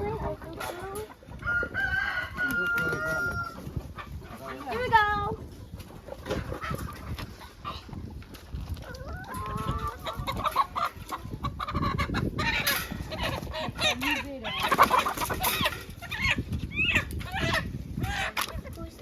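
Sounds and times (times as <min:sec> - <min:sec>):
chickens clucking and squawking: 0:00.0 - 0:19.0.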